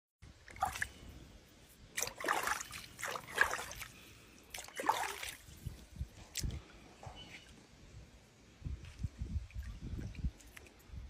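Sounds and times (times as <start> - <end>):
water splashing and trickling: 0.2 - 6.8, 8.6 - 11.0.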